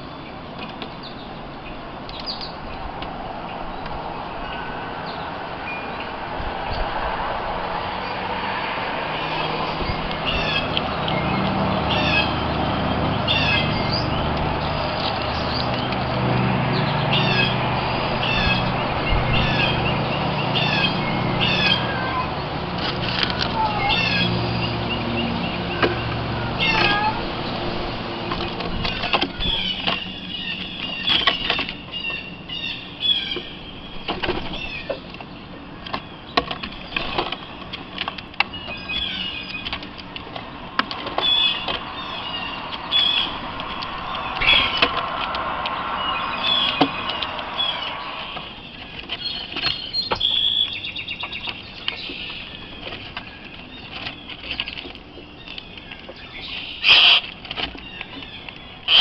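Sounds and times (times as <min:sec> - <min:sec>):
small birds chirping: 0:00.0 - 0:02.9, 0:09.1 - 0:59.0.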